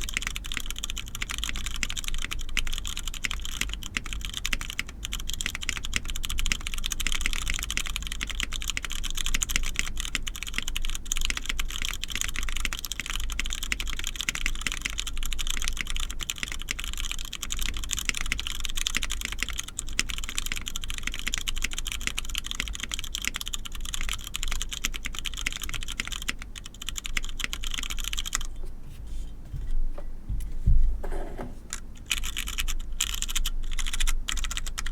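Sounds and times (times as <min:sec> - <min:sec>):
mechanical keyboard typing: 0:00.0 - 0:28.5, 0:31.1 - 0:34.9.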